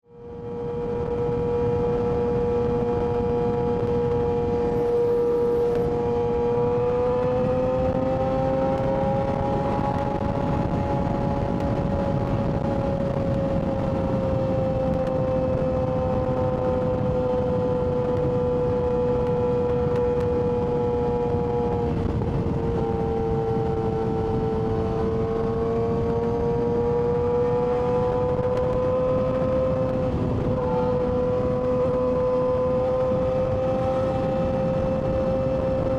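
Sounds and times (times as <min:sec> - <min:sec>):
motorcycle engine whining: 0:00.0 - 0:35.9.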